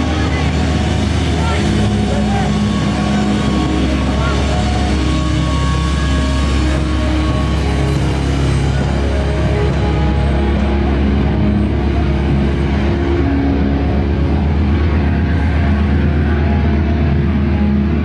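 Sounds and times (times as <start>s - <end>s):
bass guitar sustained notes: 0.0s - 18.0s
distorted guitar: 0.0s - 18.0s
heavy rock band playing: 0.0s - 18.0s.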